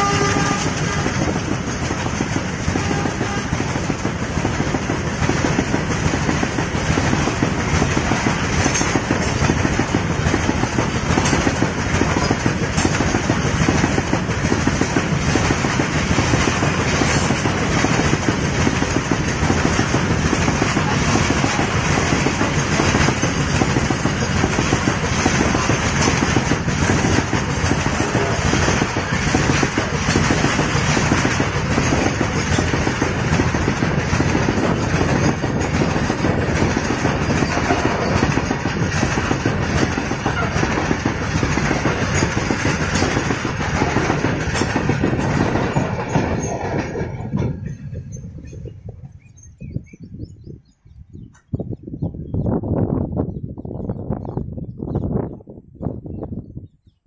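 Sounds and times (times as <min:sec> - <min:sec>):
freight train wheels rolling on rail: 0:00.0 - 0:57.0.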